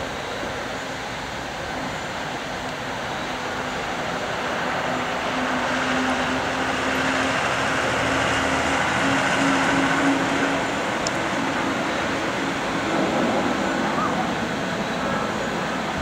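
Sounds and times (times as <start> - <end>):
airliner engines roaring: 0.0 - 16.0.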